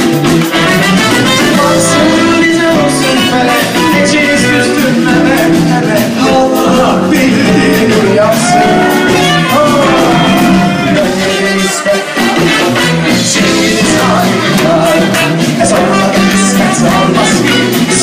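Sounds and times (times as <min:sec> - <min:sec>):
live band playing pop song: 0:00.0 - 0:18.0
trumpet: 0:00.0 - 0:18.0
man singing into microphone: 0:00.5 - 0:18.0.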